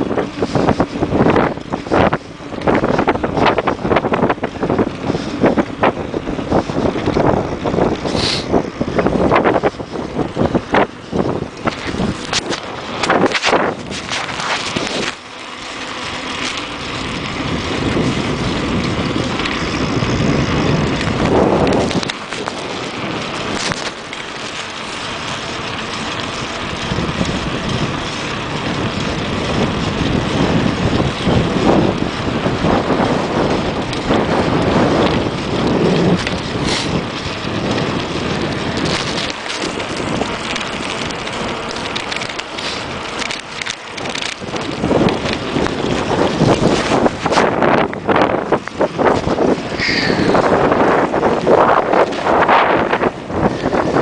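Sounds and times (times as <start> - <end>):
wind blowing across microphone: 0.0 - 54.0.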